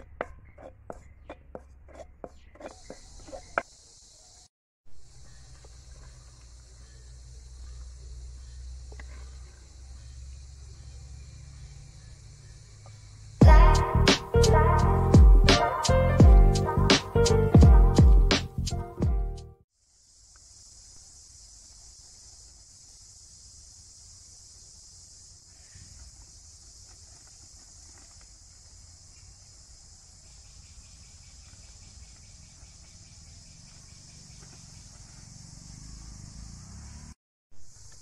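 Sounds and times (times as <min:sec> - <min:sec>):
insect chorus buzzing: 0:02.4 - 0:18.7, 0:19.7 - 0:38.0.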